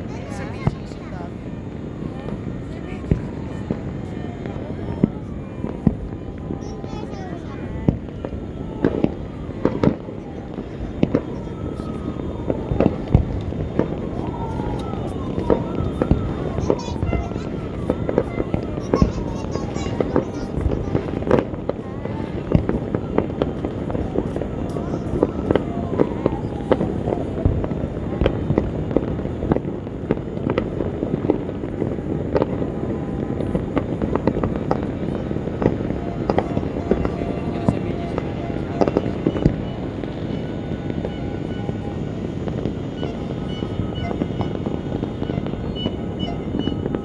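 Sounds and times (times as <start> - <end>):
distant fireworks crackling: 0.0 - 47.0
fireworks banging: 0.0 - 47.0.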